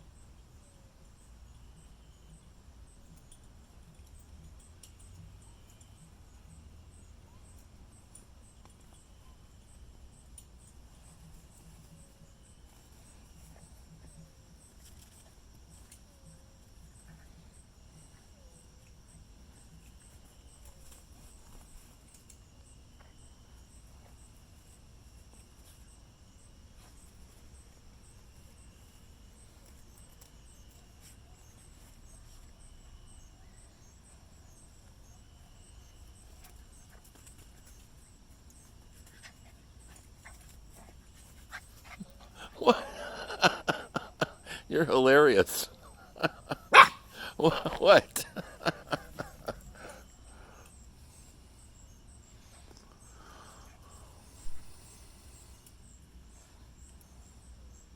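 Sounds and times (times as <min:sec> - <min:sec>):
insect high pulsing chirp: 0:00.0 - 0:57.9
lower insect trill: 0:00.0 - 0:57.9.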